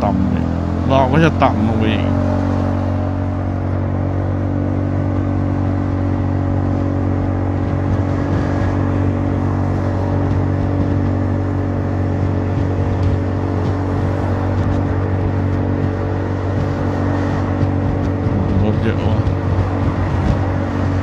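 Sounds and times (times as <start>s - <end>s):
scooter engine droning: 0.0s - 21.0s.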